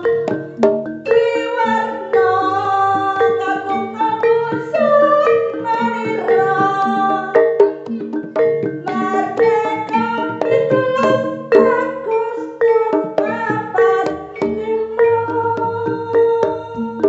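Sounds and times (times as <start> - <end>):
percussion ensemble music: 0.0 - 17.0
wavering melody line: 0.0 - 17.0.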